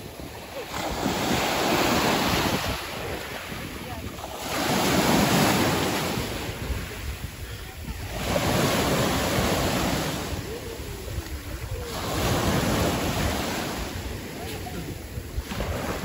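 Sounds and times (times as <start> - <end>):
surf breaking at shoreline: 0.0 - 16.0.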